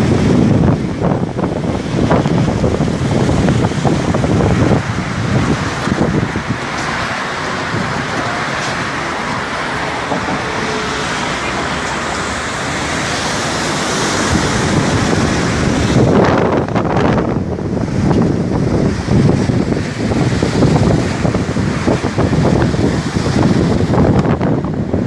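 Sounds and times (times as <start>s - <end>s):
passing road traffic: 0.0s - 25.0s
sea surf: 0.0s - 25.0s
wind buffeting microphone: 0.0s - 25.0s.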